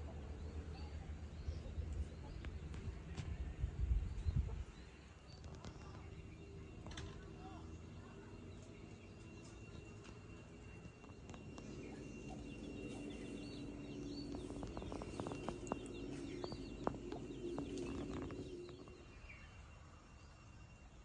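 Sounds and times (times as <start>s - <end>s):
small birds chirping: 0.0s - 20.8s
low steady drone: 0.0s - 21.0s.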